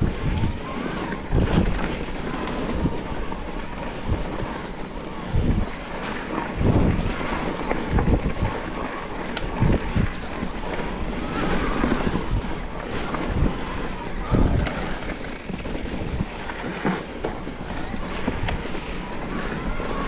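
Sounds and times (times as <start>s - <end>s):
bike tyres on dirt: 0.0s - 20.0s
wind rushing over microphone: 0.0s - 20.0s.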